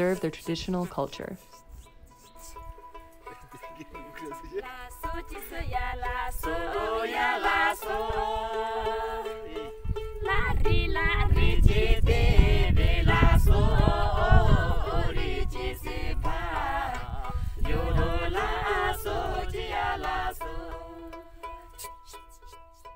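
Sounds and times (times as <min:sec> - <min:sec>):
background music with singing: 0:01.6 - 0:22.9.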